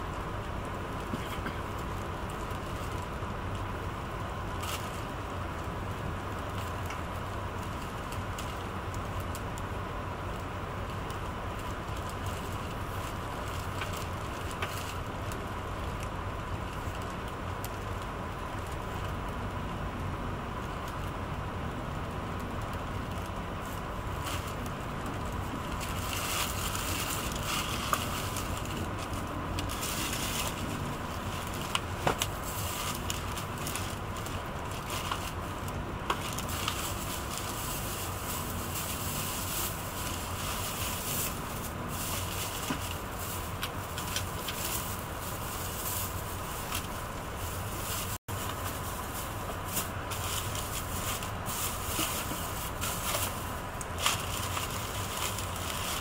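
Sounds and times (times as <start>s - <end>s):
faint steady whine: 0.0s - 56.0s
train cabin rumble and hiss: 0.0s - 56.0s.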